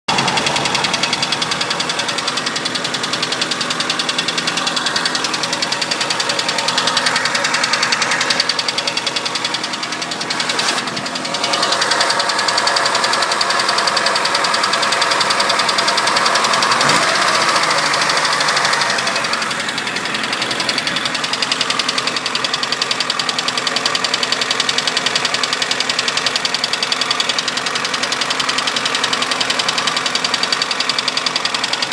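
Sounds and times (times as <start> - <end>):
car engine running: 0.1 - 31.9
fast even engine ticking: 0.1 - 31.9.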